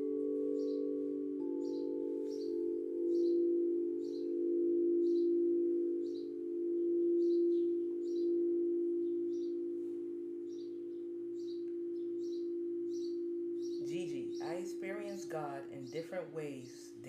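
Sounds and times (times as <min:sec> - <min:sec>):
singing bowl ringing: 0:00.0 - 0:15.3
bird chirping: 0:00.5 - 0:09.7, 0:10.3 - 0:17.0.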